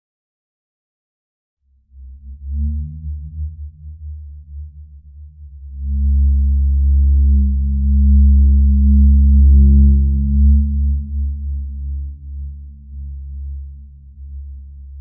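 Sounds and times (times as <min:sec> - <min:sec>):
deep synthesized drone: 0:01.8 - 0:15.0.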